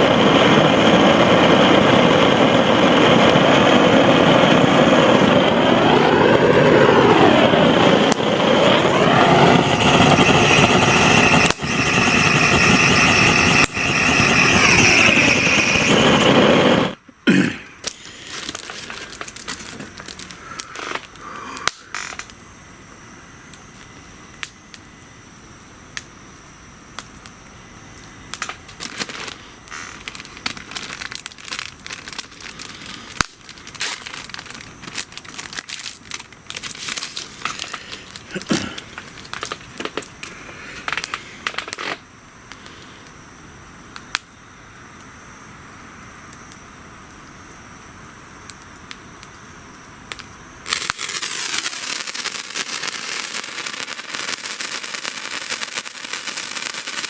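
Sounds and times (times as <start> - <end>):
wood fire crackling: 0.0 - 17.0, 17.8 - 43.2, 46.0 - 57.0
loud wavering whining hiss: 0.0 - 57.0
sharp snaps of fire: 0.1 - 17.0, 17.6 - 43.2, 43.8 - 57.0.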